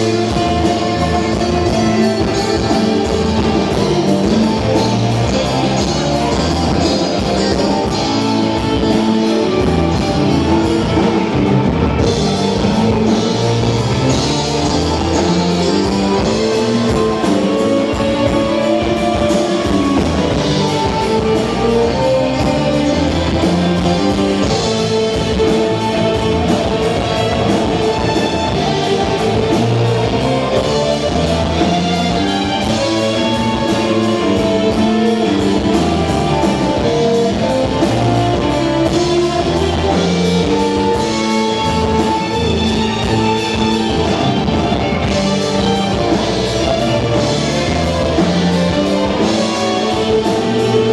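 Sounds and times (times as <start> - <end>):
drum kit beat: 0.0 - 50.9
electric guitar: 0.0 - 50.9.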